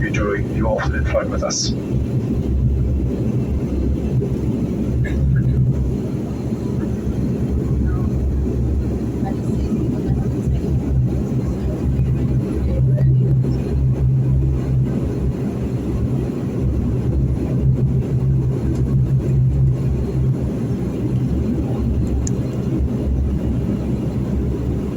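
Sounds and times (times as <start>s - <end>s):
low rumble: 0.0s - 24.9s
turboprop engines droning: 0.0s - 24.9s.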